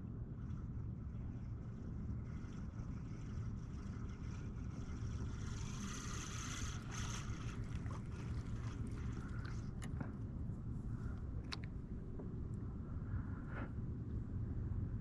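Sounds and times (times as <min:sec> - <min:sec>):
wind rumble on microphone: 0:00.0 - 0:15.0
water sloshing against hull: 0:00.4 - 0:12.7.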